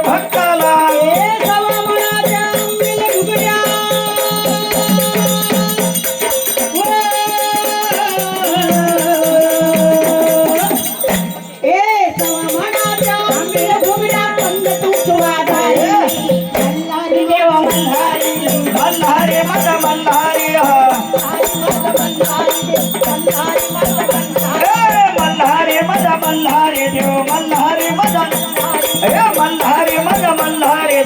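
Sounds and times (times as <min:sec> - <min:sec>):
jingling rattle percussion: 0:00.0 - 0:31.0.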